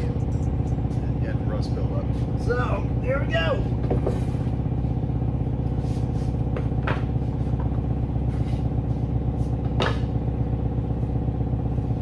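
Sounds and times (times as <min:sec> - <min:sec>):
engine low pulsing drone: 0:00.0 - 0:12.0.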